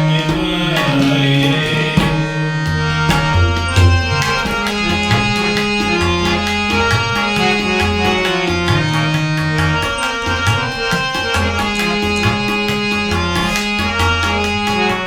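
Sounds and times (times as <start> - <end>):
harmonium chords: 0.0 - 15.0
tabla strokes: 0.0 - 15.0
deep pitch-bending drum notes: 0.1 - 15.0.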